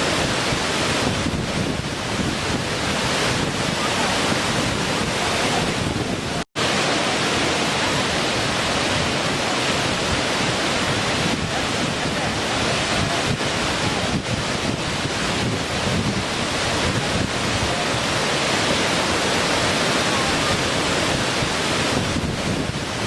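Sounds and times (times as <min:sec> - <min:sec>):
small waterfall splashing: 0:00.0 - 0:23.0.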